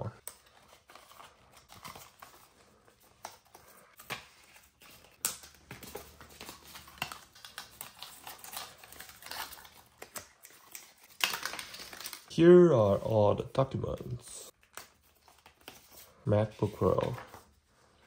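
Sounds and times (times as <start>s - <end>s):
paper packaging rustling: 0.1s - 12.4s, 13.0s - 18.0s.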